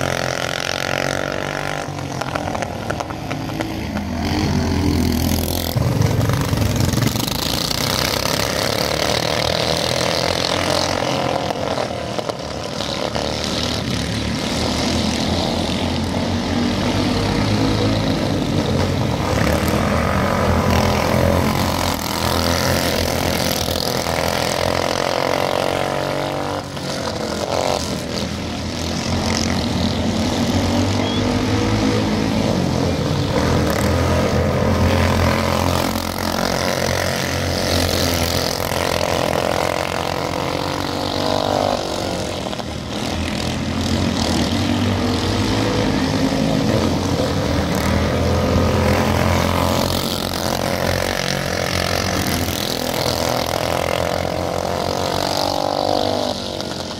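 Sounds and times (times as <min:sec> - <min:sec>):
racing kart engines: 0:00.0 - 0:56.9.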